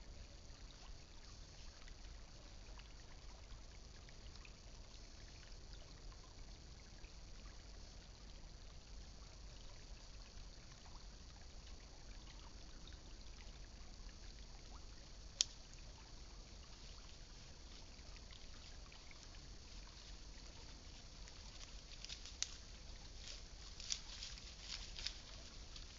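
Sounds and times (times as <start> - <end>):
creek water trickling: 0.0 - 25.9.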